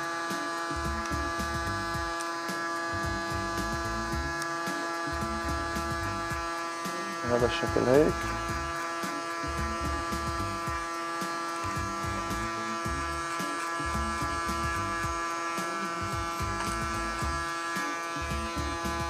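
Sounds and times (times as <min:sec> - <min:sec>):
electric hair clipper buzzing: 0:00.0 - 0:19.0.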